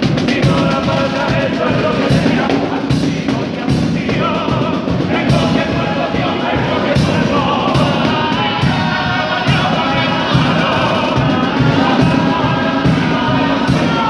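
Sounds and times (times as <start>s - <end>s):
chorus singing in harmony: 0.0s - 14.0s
percussion strokes: 0.0s - 14.0s.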